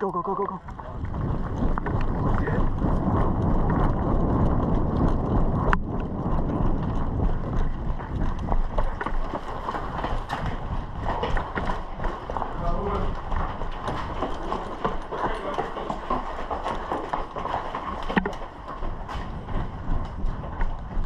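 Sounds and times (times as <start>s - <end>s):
running footsteps: 0.0s - 21.0s.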